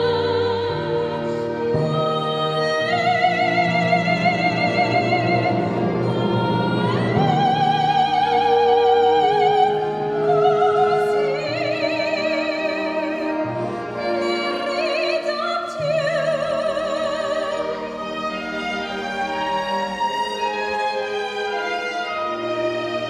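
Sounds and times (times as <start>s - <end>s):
operatic singing: 0.0s - 23.0s
orchestral accompaniment: 0.0s - 23.0s.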